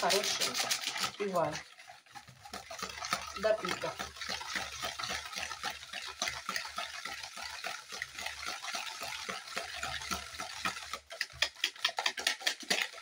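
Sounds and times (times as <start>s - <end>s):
utensil clicking against bowl: 0.0s - 7.2s, 8.1s - 13.0s
batter being beaten by hand: 0.0s - 13.0s.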